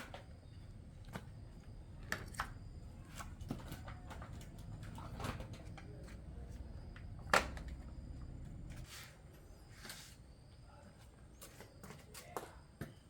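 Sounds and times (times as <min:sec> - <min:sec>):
faint low hum: 0:00.0 - 0:11.4.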